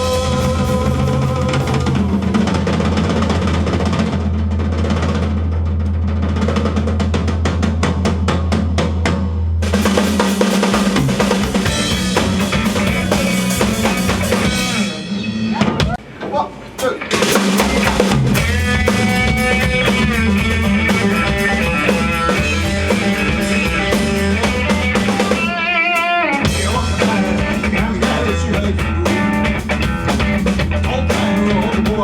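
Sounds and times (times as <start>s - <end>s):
live rock band playing: 0.0s - 5.2s, 9.6s - 16.1s, 16.8s - 32.0s
fast run of drum strokes: 0.0s - 16.0s, 17.1s - 25.6s, 26.4s - 32.0s
drums: 0.0s - 32.0s.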